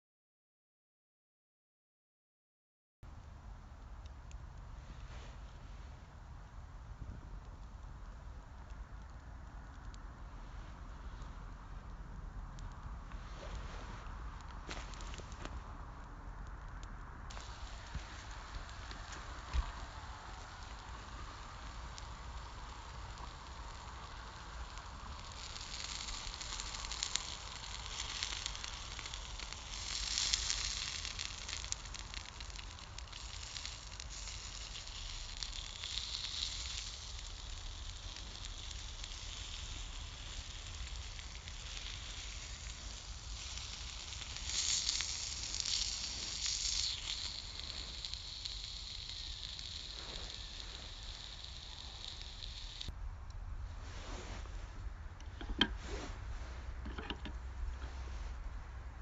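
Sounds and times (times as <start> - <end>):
campfire crackling and hissing: 3.2 - 59.0.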